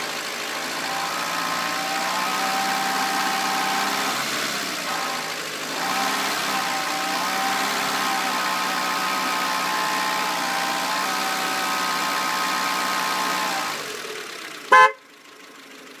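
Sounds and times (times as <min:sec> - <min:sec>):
car engine whining and rattling: 0:00.0 - 0:16.0.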